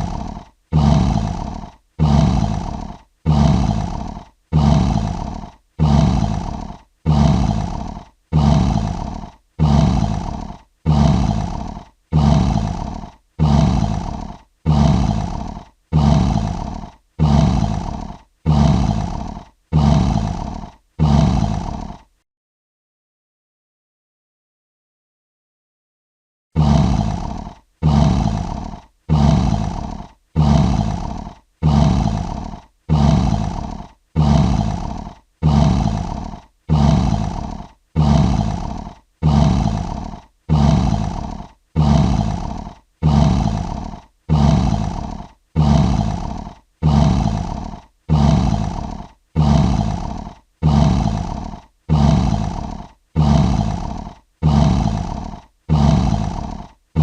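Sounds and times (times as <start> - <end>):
lion roar: 0.0 - 22.2, 26.6 - 57.0.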